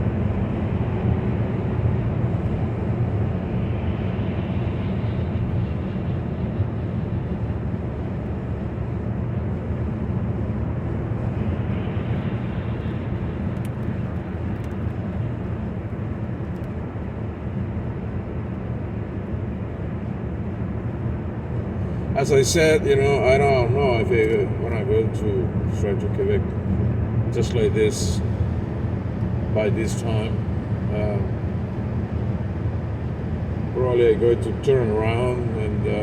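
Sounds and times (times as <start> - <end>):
engine and tyre drone: 0.0 - 36.0.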